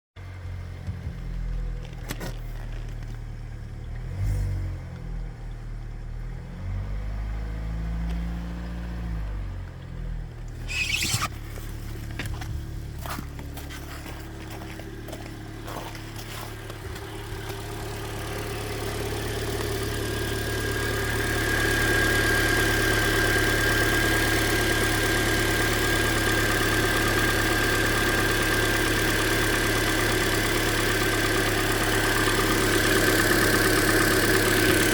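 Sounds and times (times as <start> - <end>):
car engine idling: 0.2 - 4.2, 4.8 - 34.9.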